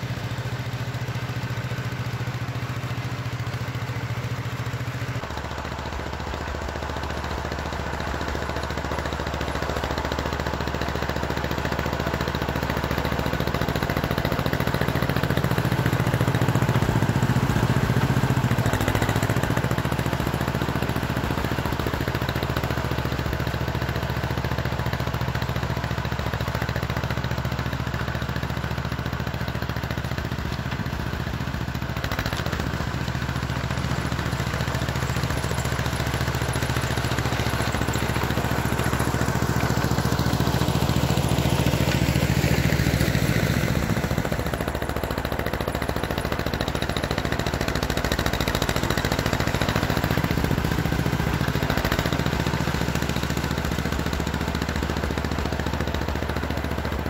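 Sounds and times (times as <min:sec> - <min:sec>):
crawler tractor engine running: 0:00.0 - 0:57.0.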